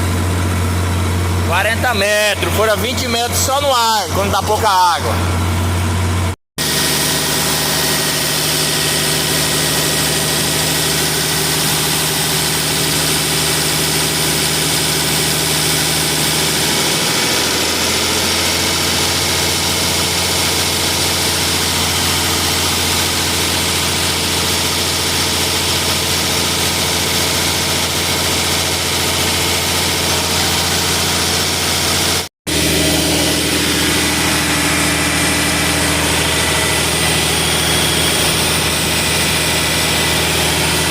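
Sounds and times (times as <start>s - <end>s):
diesel air compressor running: 0.0s - 40.9s.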